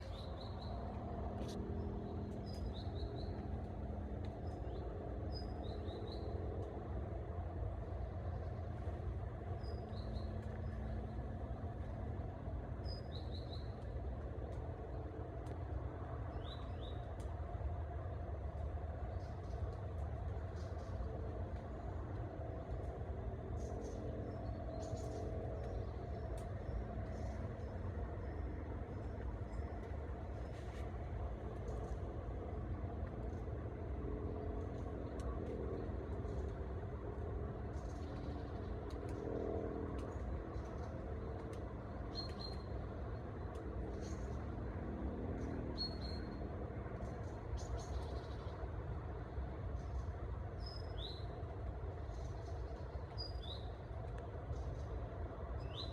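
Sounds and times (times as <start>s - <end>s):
low forest rumble: 0.0s - 55.9s.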